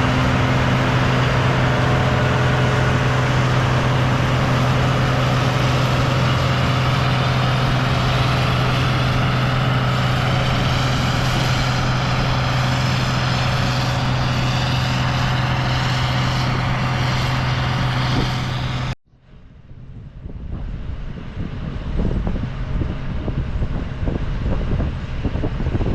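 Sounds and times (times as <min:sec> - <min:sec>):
combine harvester running: 0:00.0 - 0:25.9
wind noise: 0:00.0 - 0:25.9.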